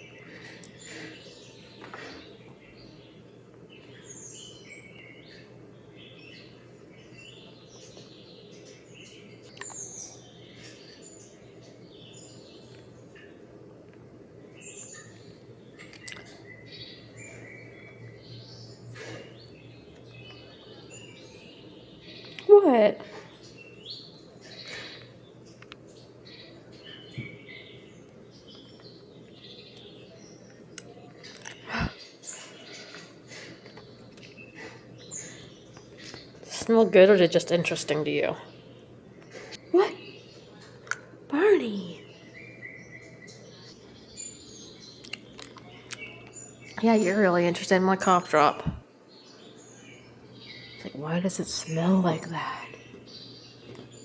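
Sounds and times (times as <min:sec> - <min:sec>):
small birds chirping: 0:00.0 - 0:54.0
steady low hum: 0:00.0 - 0:54.0.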